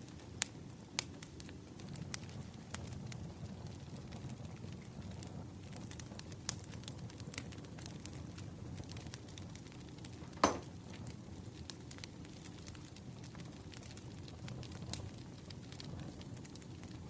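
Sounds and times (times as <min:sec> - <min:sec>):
fire crackles and pops: 0:00.0 - 0:17.0
firewood burning low rush: 0:00.0 - 0:17.0.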